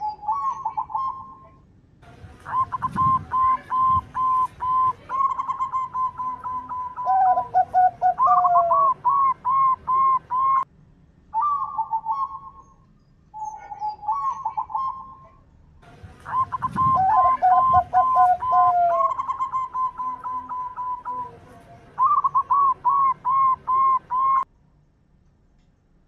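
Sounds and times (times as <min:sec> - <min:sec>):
dove cooing: 0:00.0 - 0:01.6, 0:02.4 - 0:10.6, 0:11.4 - 0:12.6, 0:13.4 - 0:15.3, 0:16.2 - 0:24.4.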